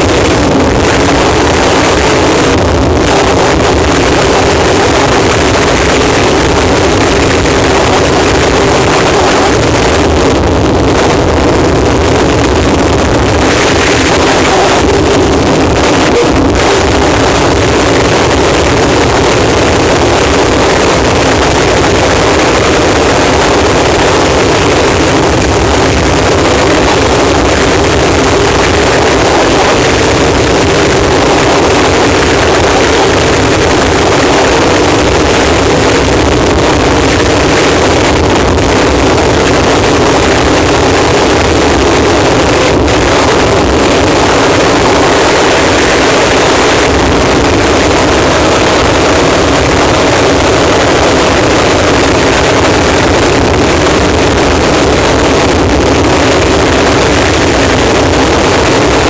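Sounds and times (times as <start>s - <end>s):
dense distorted static noise: 0.0s - 59.0s.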